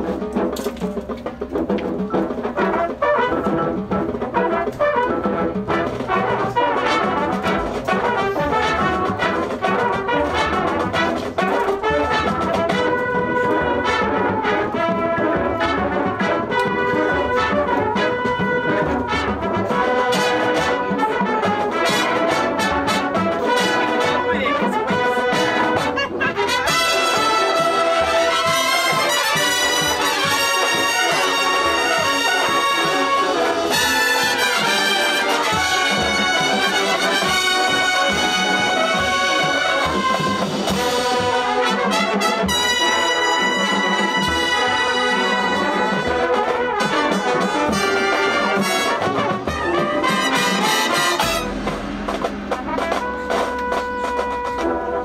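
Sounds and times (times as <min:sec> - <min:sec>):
brass playing: 0:00.0 - 0:55.0
drums: 0:00.0 - 0:55.0.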